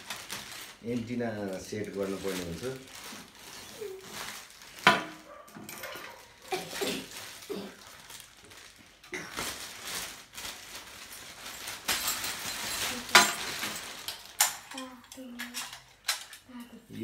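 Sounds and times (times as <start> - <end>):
plastic bag rustling: 0.0 - 15.6.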